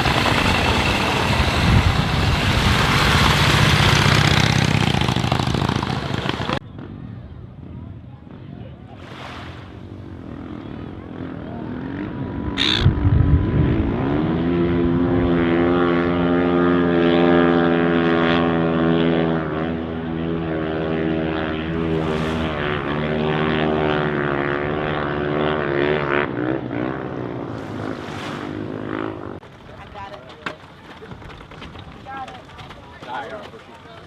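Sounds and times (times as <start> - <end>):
engine running with steady drone: 0.0 - 29.5.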